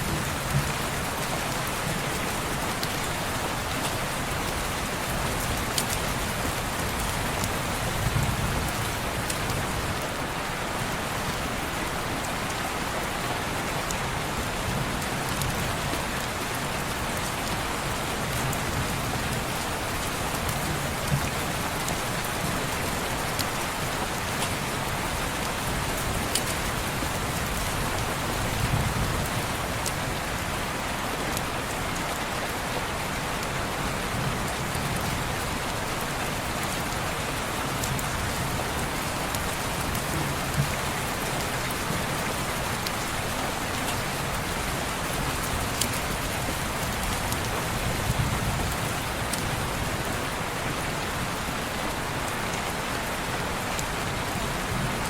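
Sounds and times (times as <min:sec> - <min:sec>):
heavy rain on window glass: 0:00.0 - 0:55.0.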